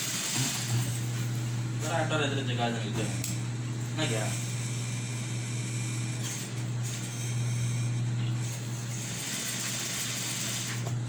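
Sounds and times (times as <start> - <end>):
low electric hum: 0.0 - 9.2.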